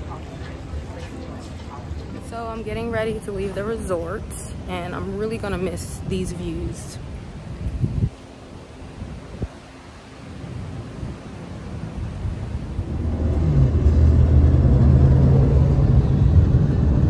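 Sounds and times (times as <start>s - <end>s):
car engine and road noise: 0.0s - 5.8s, 7.0s - 17.0s.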